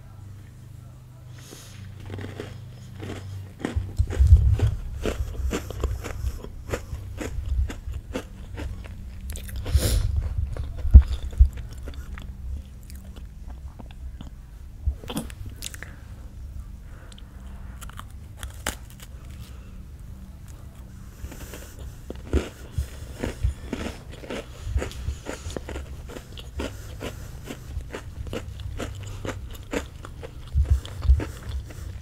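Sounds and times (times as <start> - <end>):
crunchy food being chewed: 1.3 - 16.0, 16.9 - 32.0.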